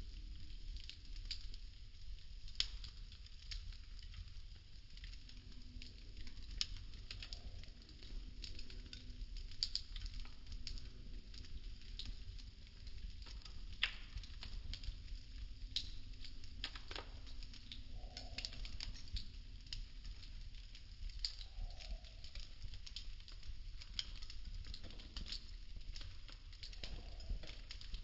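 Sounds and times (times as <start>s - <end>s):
wood crackling and popping: 0.0s - 28.0s.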